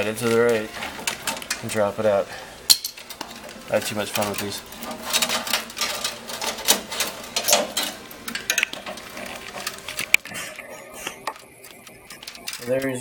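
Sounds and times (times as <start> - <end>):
metal parts clicking and rattling: 0.0 - 1.9, 2.7 - 10.3, 11.2 - 13.0.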